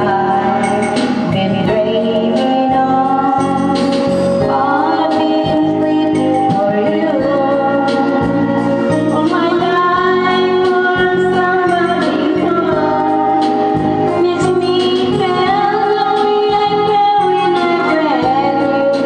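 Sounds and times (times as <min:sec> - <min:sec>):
backing track with beat: 0:00.0 - 0:19.0
woman singing karaoke: 0:00.0 - 0:19.0.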